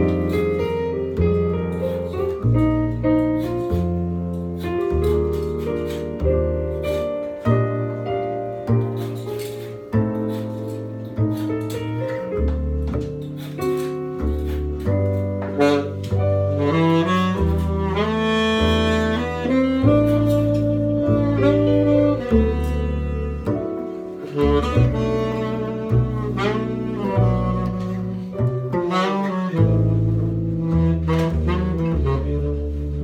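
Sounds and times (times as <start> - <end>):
double bass plucked: 0.0 - 33.0.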